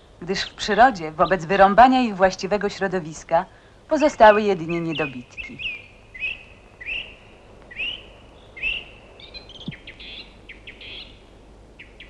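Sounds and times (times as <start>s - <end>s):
faint steady hiss: 0.0s - 12.0s
songbird chirping: 0.0s - 12.0s.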